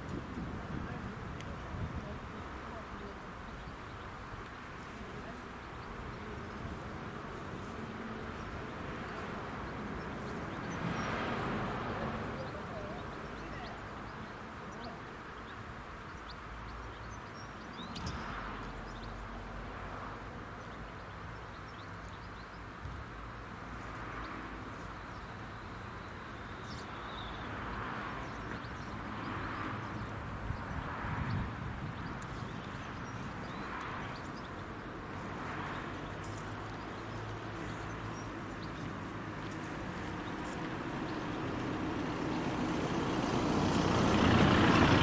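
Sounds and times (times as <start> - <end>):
steady outdoor rushing noise: 0.0 - 21.9, 22.6 - 45.0.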